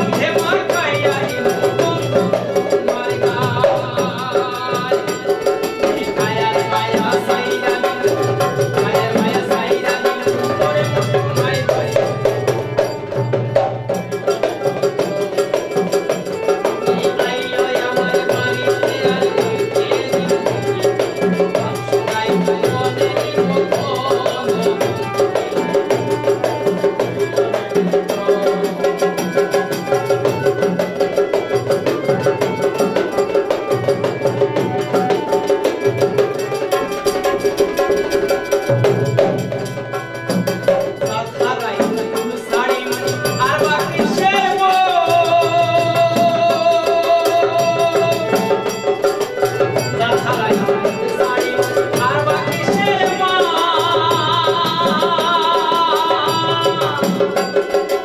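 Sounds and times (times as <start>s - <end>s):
barrel drum rhythm: 0.0s - 58.0s
harmonium chords: 0.0s - 58.0s.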